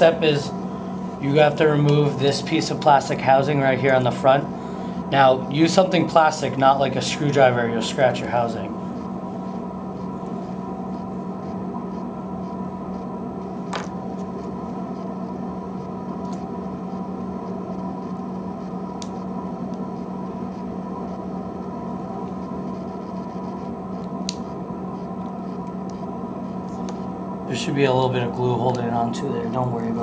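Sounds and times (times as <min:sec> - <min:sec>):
low ventilation hum: 0:00.0 - 0:30.0.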